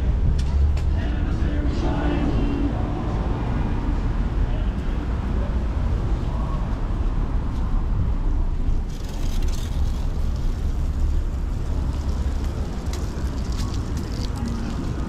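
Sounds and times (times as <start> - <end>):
city street low rumble: 0.0 - 15.0.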